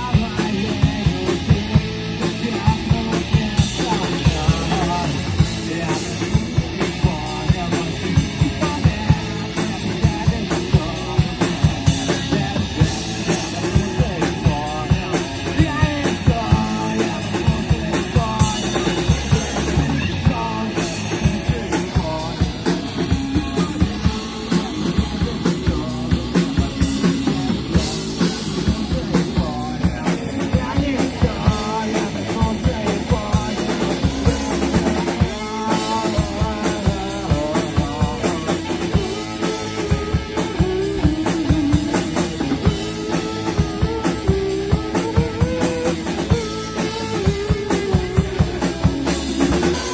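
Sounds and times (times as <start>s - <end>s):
drum kit driving beat: 0.0s - 49.9s
rock band playing live: 0.0s - 49.9s.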